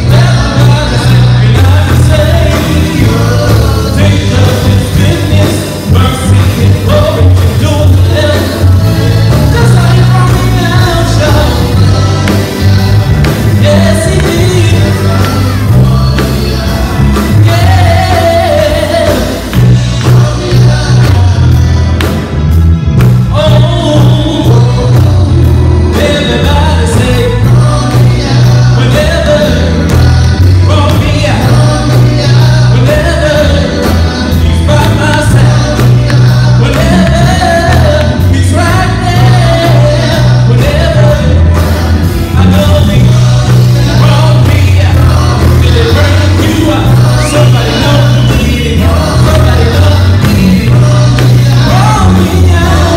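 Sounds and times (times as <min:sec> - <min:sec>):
person singing into microphone: 0:00.0 - 0:22.4, 0:23.0 - 0:52.9
gospel band playing: 0:00.0 - 0:52.9.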